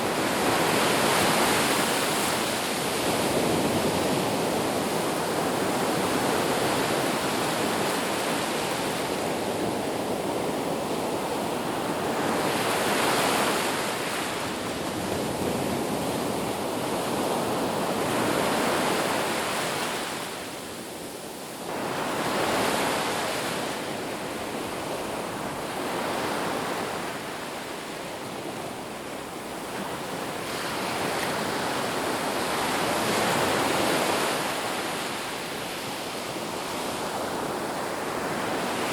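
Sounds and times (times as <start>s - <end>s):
waves washing onto beach: 0.0s - 38.9s.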